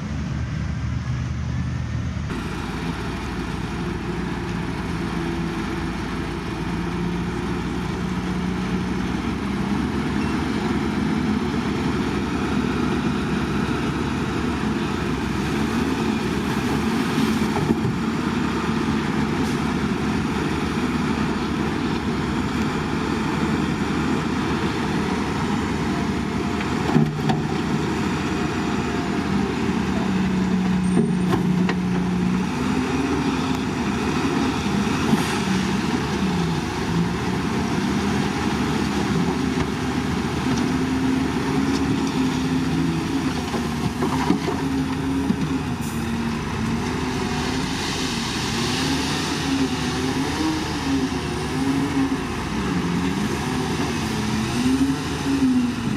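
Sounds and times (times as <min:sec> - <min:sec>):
heavy diesel engine working: 0:00.0 - 0:55.9.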